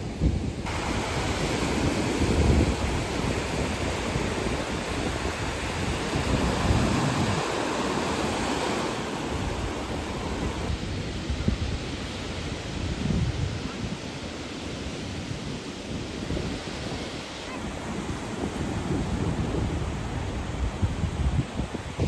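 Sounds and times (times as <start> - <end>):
wind buffeting microphone: 0.0 - 14.2, 14.8 - 22.0
waves breaking on shore: 0.0 - 22.0.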